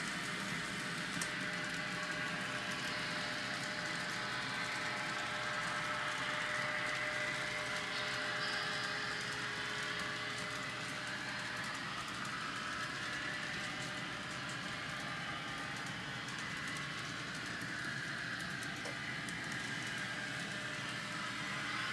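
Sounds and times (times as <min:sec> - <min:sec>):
model trains whirring on rails: 0:00.0 - 0:21.9.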